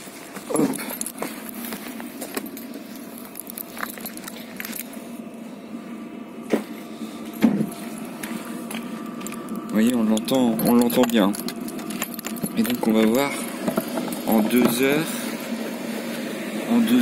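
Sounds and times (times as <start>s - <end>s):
diesel air heater droning: 0.0s - 17.0s.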